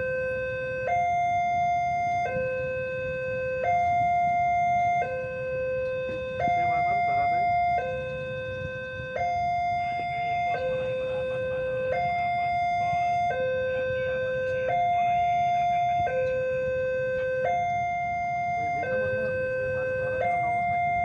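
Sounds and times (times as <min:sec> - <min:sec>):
low steady rumble: 0:00.0 - 0:21.0
two-tone crossing alarm: 0:00.0 - 0:21.0.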